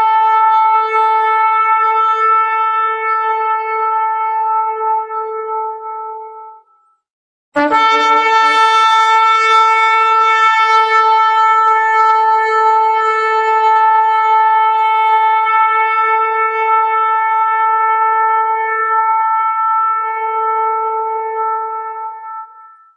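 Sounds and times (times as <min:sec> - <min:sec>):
shofar long blast: 0:00.0 - 0:06.7, 0:07.6 - 0:22.9.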